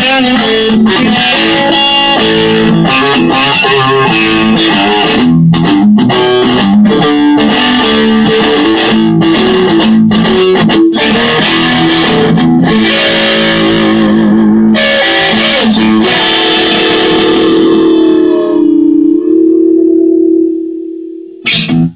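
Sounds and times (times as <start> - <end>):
electric guitar through an amp: 0.0 - 21.9.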